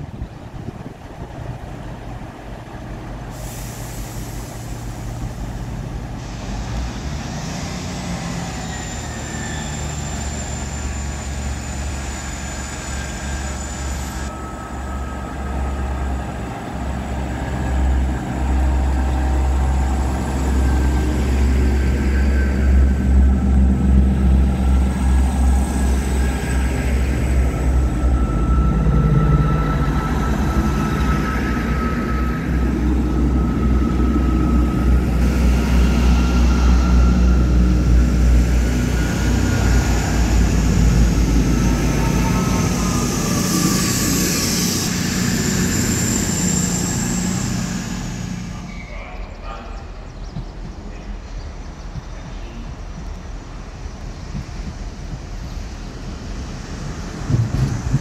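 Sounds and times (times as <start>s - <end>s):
train running with whining tones: 0.0s - 58.0s.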